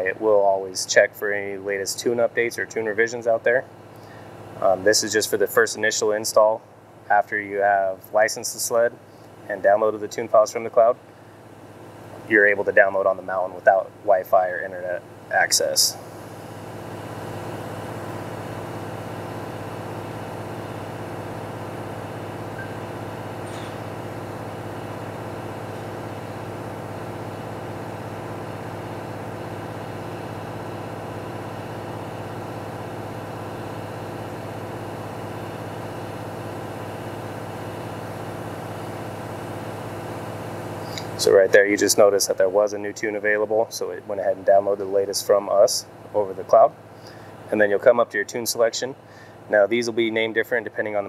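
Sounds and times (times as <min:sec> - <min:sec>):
mechanical hum with low drone: 0:00.0 - 0:51.0.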